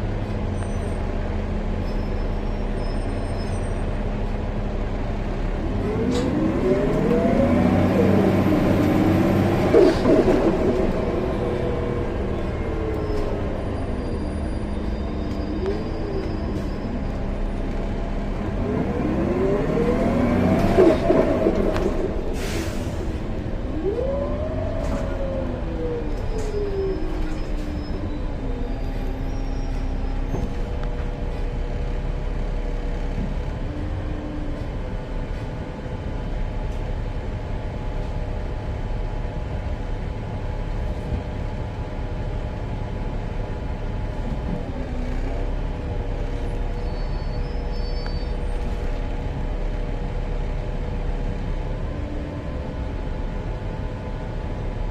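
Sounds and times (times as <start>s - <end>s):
bus engine rumbling: 0.0s - 54.9s.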